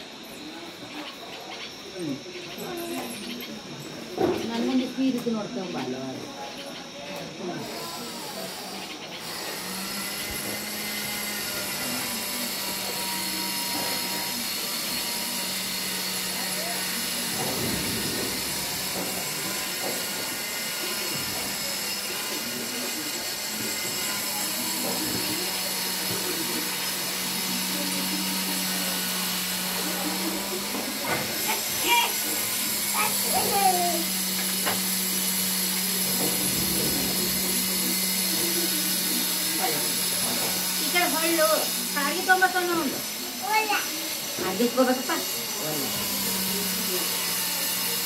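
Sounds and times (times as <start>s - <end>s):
faint distant voices: 0.0s - 48.0s
machine hiss: 7.6s - 48.0s.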